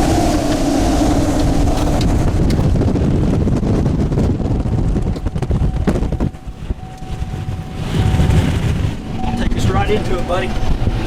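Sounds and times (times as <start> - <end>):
strong wind buffeting: 0.0 - 11.0.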